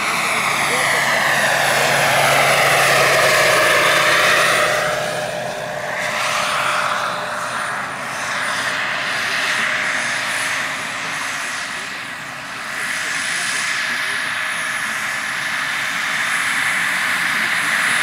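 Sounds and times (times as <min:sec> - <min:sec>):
helicopter rotor noise: 0:00.0 - 0:18.0
model helicopter turbine whine: 0:00.0 - 0:18.0.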